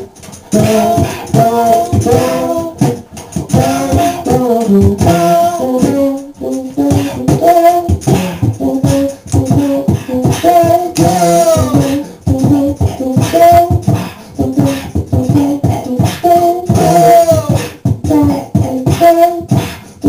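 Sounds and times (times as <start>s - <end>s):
beatboxing drum hits: 0.0s - 20.0s
wordless vocal melody: 0.0s - 20.0s.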